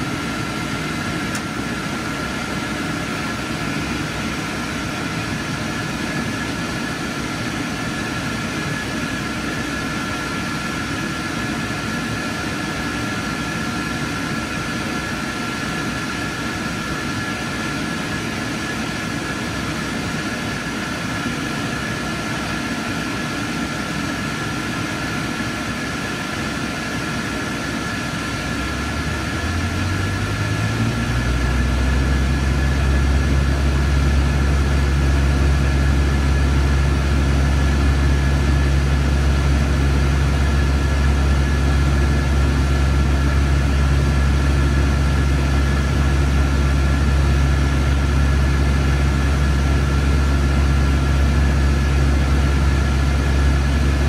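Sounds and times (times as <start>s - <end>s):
high fan whine: 0.0s - 54.0s
ventilation fans drone: 0.0s - 54.0s.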